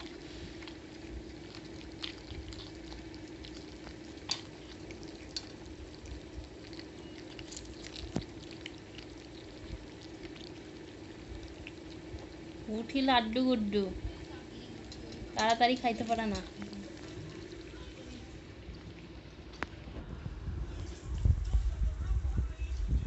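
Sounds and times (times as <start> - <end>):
cats crunching fish: 0.0 - 13.4, 14.2 - 19.8.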